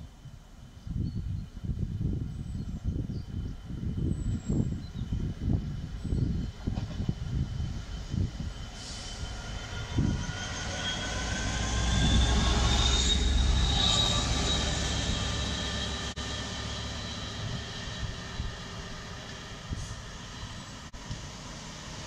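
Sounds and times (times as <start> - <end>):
diesel locomotive passing: 1.6 - 22.0
high engine whine: 3.8 - 22.0.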